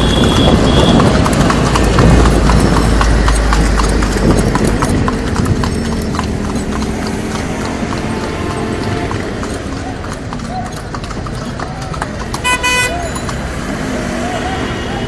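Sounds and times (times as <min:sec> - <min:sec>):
hooves clip-clopping on pavement: 0:00.0 - 0:15.0.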